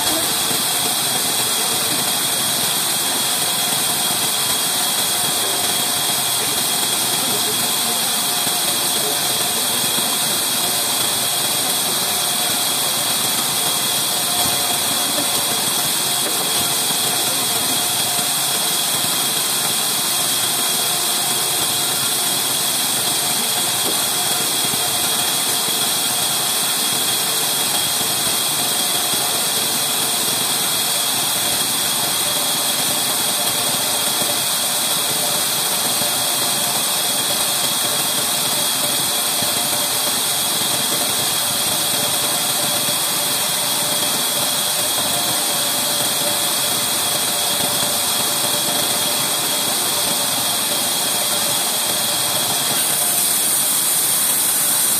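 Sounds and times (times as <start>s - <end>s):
band saw whirring with high whine: 0.0s - 54.9s.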